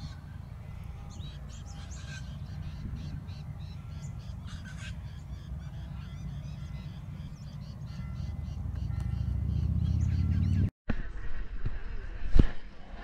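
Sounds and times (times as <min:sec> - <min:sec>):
birds chirping: 0:00.0 - 0:10.7
wind buffeting microphone: 0:00.0 - 0:10.7.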